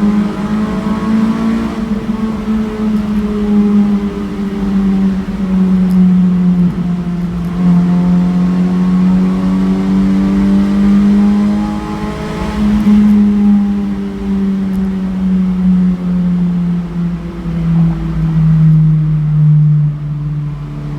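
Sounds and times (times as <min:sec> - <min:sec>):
car engine running in a tunnel: 0:00.0 - 0:20.9.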